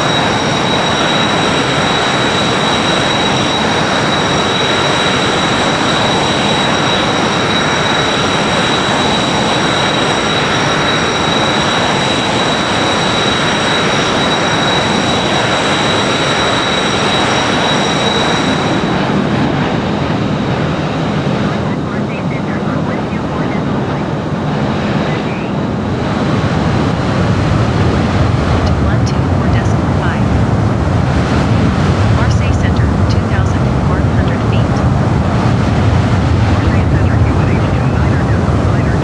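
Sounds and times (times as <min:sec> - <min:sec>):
high turbine whine: 0:00.0 - 0:39.0
jet engines roaring: 0:00.0 - 0:39.0.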